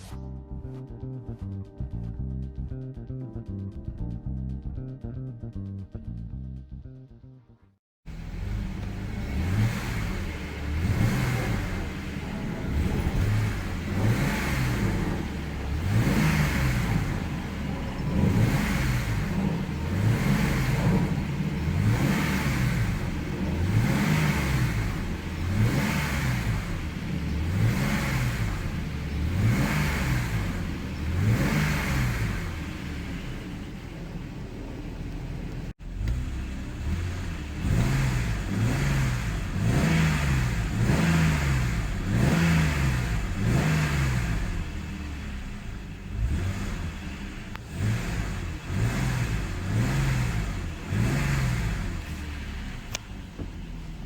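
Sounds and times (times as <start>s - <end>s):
car engine revving: 8.1s - 54.0s.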